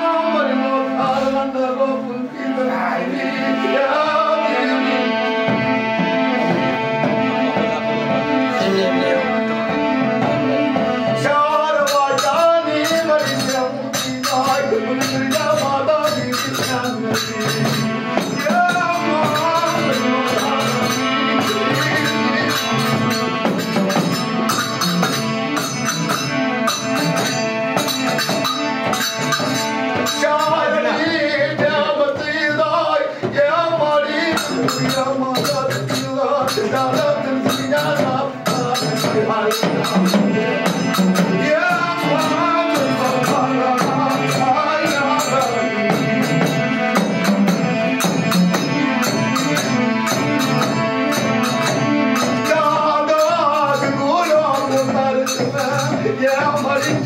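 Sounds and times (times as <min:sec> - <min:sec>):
rattling percussion beat: 0:05.2 - 0:57.0
person singing: 0:07.4 - 0:25.2, 0:27.8 - 0:50.6, 0:51.2 - 0:57.0.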